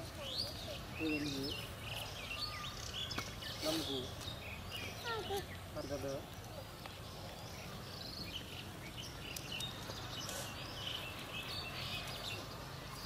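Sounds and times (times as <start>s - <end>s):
outdoor background hiss: 0.0s - 13.0s
small birds chirping: 0.0s - 13.0s.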